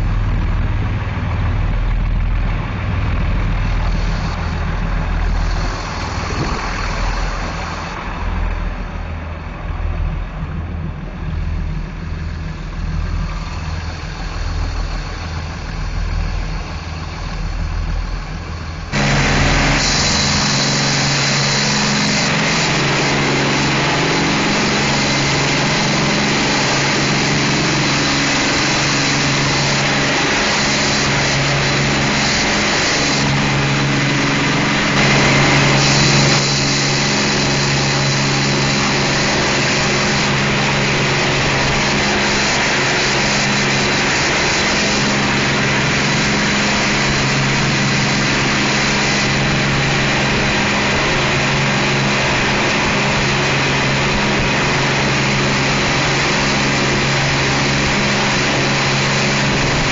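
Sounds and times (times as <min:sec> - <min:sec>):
churning water jet wake: 0:00.0 - 0:59.9
diesel engines droning: 0:00.0 - 0:59.9.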